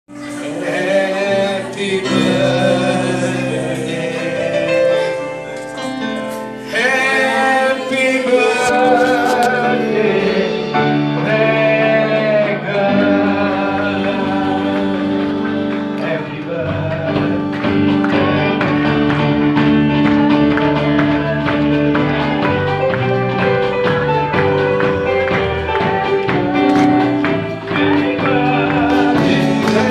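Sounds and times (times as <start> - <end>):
sustained instrumental chords: 0.1 - 29.9.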